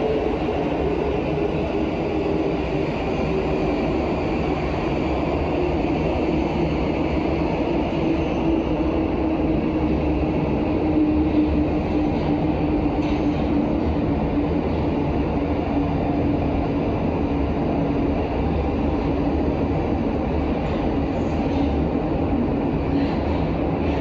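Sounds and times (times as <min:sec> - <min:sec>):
train hum: 0:00.0 - 0:24.0
train wheels rumbling on rail: 0:00.0 - 0:24.0.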